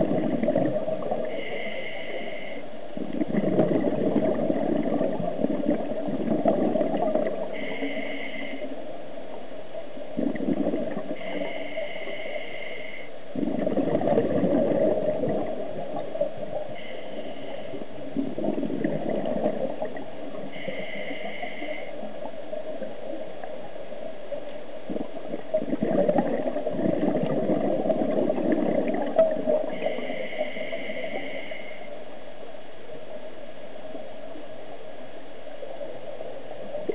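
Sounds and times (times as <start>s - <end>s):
exhaled bubbles gurgling: 0.0s - 8.8s, 10.0s - 12.5s, 13.3s - 31.8s, 36.5s - 36.9s.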